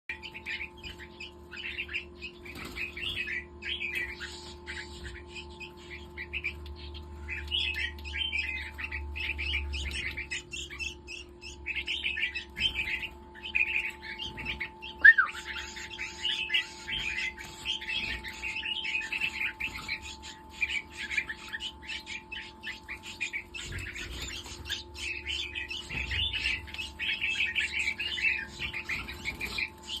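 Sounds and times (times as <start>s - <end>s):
birds chirping: 0.0s - 30.0s
steady electrical hum: 0.1s - 30.0s.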